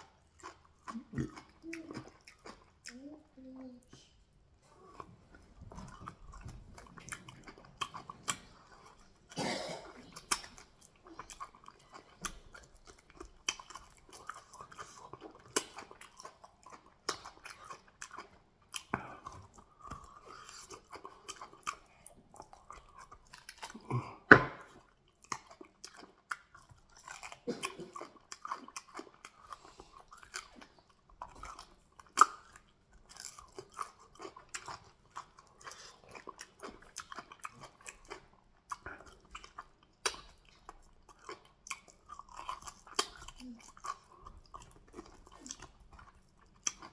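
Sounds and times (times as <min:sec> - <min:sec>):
wet chewing and smacking: 0:00.0 - 0:46.9.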